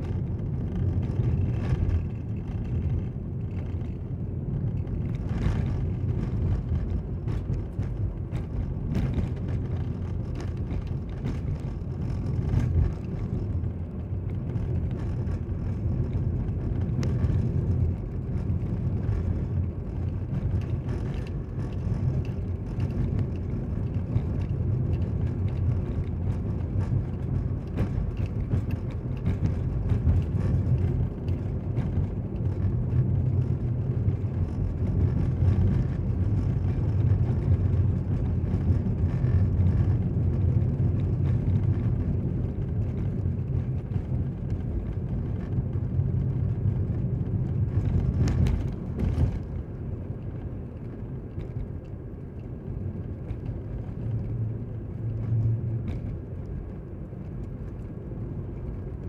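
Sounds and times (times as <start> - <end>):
car driving rumble from inside: 0.0 - 59.0.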